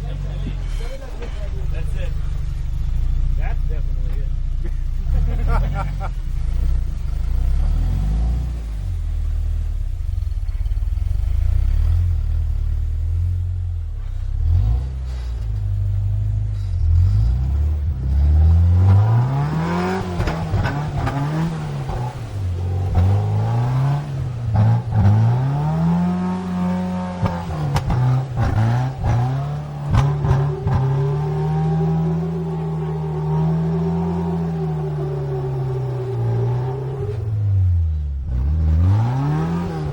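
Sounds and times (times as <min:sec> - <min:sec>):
car engine rumbling and revving: 0:00.0 - 0:39.9.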